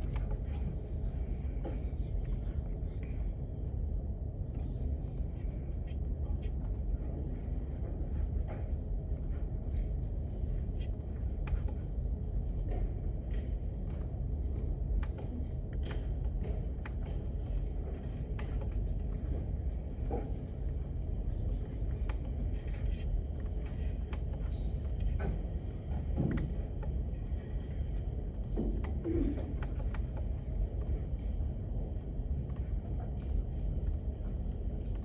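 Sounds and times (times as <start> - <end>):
faint clicks and taps: 0.0 - 35.0
low room rumble: 0.0 - 35.0.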